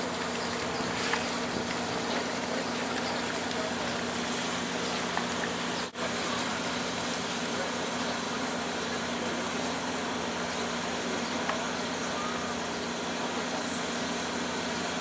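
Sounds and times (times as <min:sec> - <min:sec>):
idling engine hum: 0:00.0 - 0:15.0.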